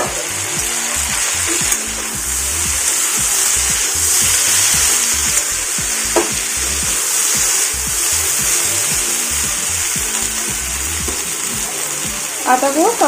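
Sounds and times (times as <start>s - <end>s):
vegetables sizzling in oil: 0.0s - 13.0s
spatula knocking pan: 1.1s - 12.2s.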